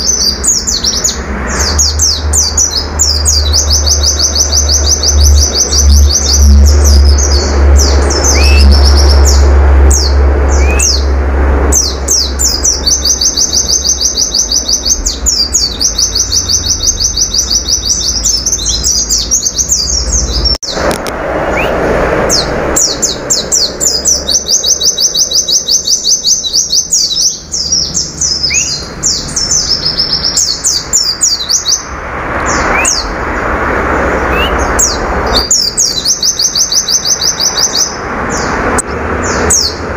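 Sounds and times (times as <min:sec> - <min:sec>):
caged bird singing: 0:00.0 - 0:39.9.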